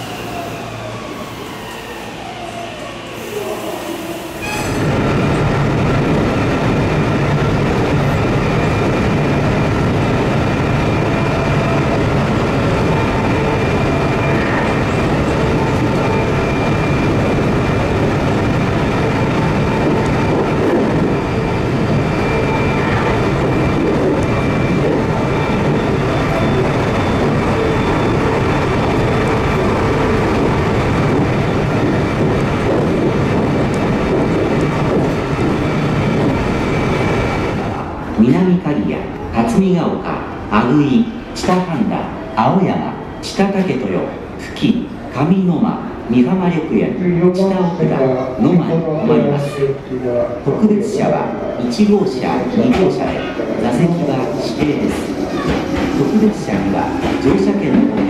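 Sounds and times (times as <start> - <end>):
wheels rumbling on rail: 0.0 - 38.2, 49.2 - 58.0.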